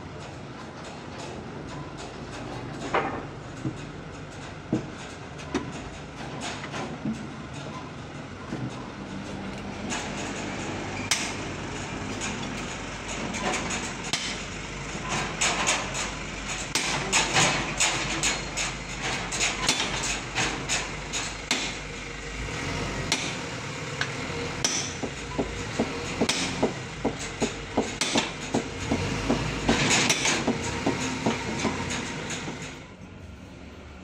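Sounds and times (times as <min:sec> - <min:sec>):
low hum of sawmill machinery: 0:00.0 - 0:34.0
sharp metal knocks and clanks: 0:00.2 - 0:07.8, 0:08.5 - 0:22.0, 0:23.0 - 0:32.9.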